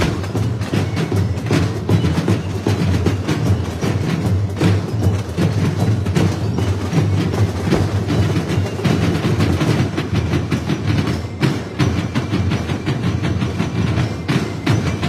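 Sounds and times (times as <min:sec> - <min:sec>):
marching field drums rolling: 0:00.0 - 0:15.0.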